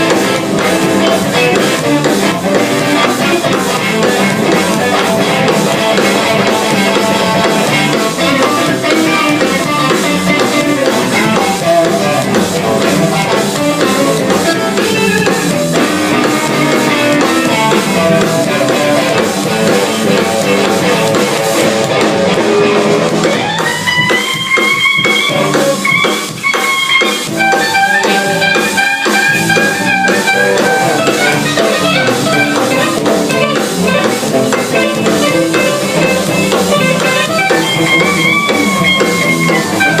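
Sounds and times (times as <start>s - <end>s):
live band jamming: 0.0s - 40.0s
sustained lead guitar notes: 0.0s - 40.0s.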